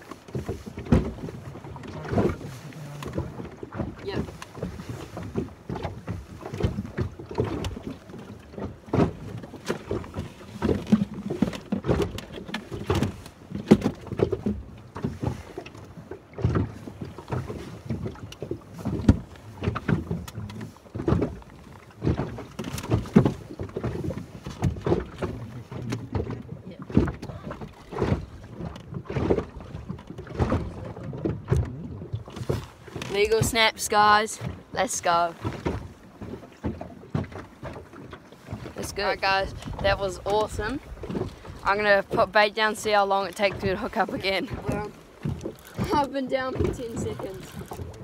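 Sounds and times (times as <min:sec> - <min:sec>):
water slapping boat hull: 0:00.0 - 0:48.0
wind buffeting microphone: 0:00.0 - 0:48.0.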